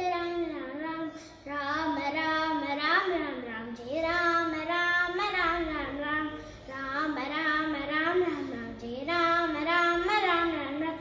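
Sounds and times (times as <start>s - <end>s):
boy singing devotional song: 0.0s - 11.0s.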